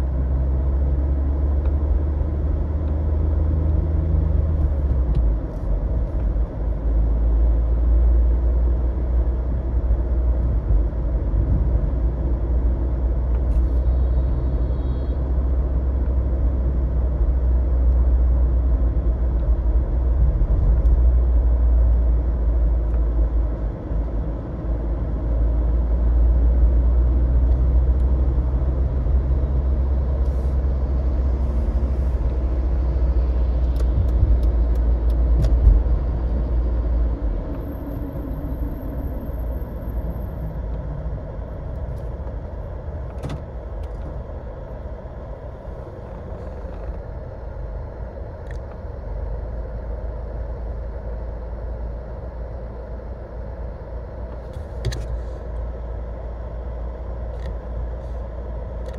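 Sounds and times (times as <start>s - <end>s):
car engine and road noise: 0.0s - 58.9s.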